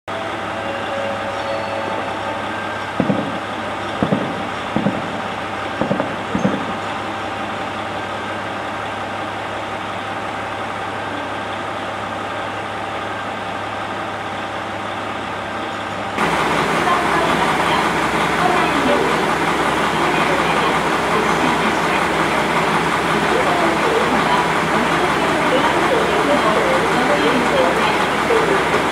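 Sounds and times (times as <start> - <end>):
diesel railcar engine idling: 0.1 - 28.9.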